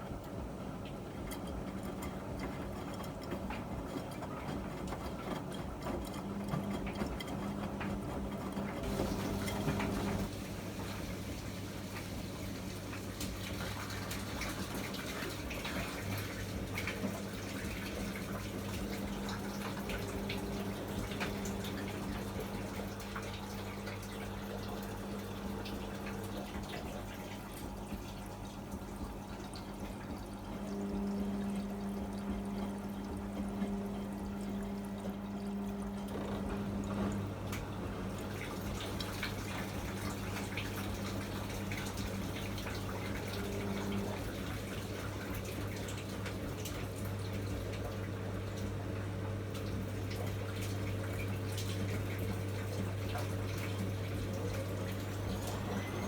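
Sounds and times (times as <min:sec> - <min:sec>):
washing machine electric hum: 0:00.0 - 0:56.0
water splashing in washing machine drum: 0:00.0 - 0:56.0.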